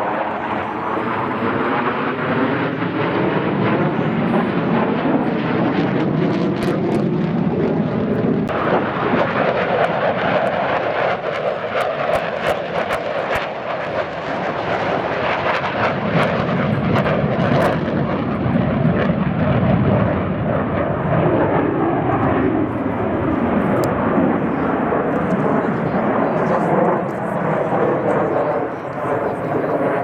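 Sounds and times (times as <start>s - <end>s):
fixed-wing aircraft flying by: 0.0s - 30.0s.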